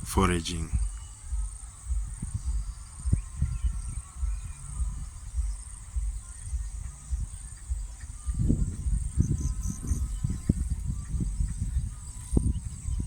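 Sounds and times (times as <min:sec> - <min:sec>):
insects chirring: 0:00.0 - 0:13.0
wind buffeting microphone: 0:00.0 - 0:13.0.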